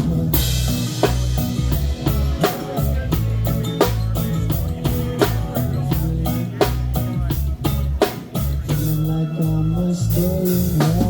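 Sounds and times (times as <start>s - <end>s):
bass line: 0.0s - 11.0s
drum kit steady beat: 0.0s - 11.0s
guitar: 0.0s - 11.0s.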